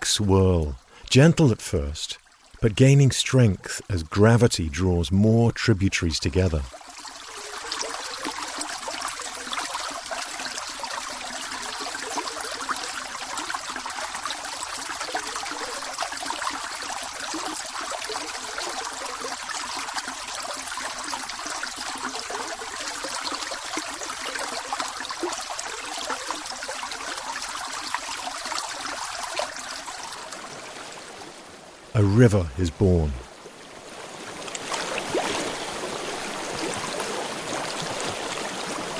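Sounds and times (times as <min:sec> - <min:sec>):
mountain stream flowing water: 0:00.0 - 0:38.9.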